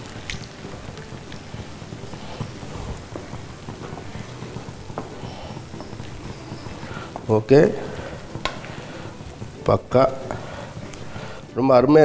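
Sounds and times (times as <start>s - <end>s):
sauce bubbling and sizzling in pan: 0.0s - 11.6s.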